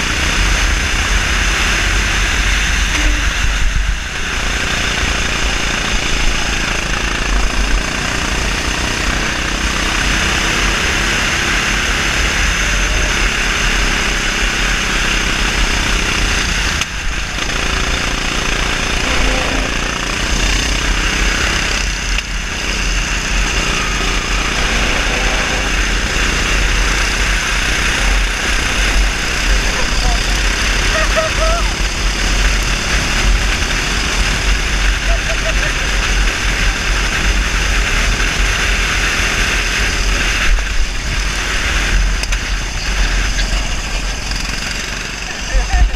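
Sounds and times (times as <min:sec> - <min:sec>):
kart engine running hard: 0:00.0 - 0:45.9.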